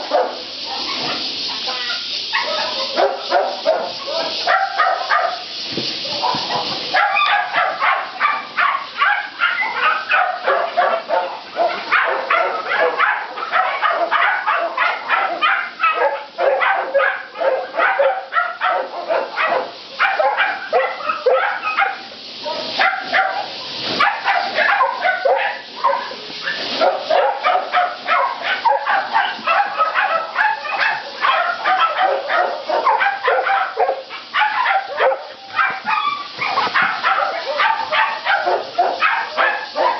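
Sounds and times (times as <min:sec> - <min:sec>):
many dogs barking and yipping: 0:00.0 - 0:39.9.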